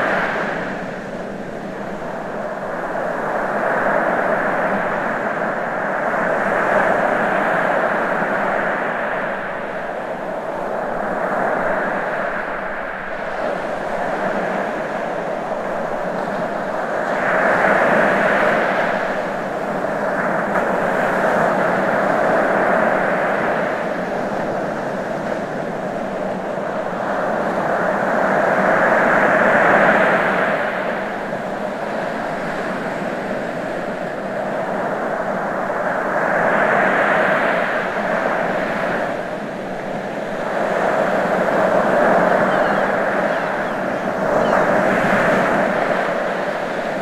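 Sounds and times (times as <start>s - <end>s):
ocean waves washing: 0.0s - 47.0s.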